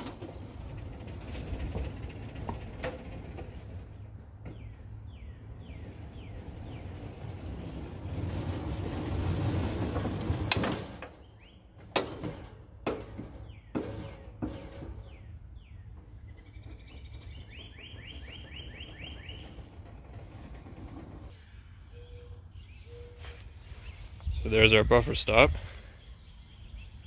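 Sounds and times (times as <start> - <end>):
small locomotive rumbling: 0.0 - 27.0
birds chirping: 3.4 - 8.7, 10.5 - 27.0.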